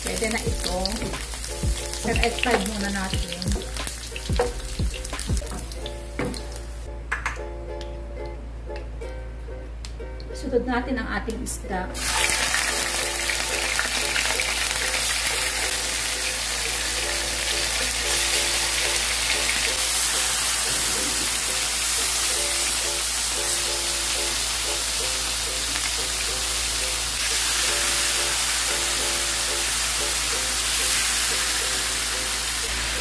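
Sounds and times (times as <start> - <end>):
fish sizzling in hot oil: 0.0 - 5.8, 12.0 - 33.0
light background music: 0.0 - 33.0.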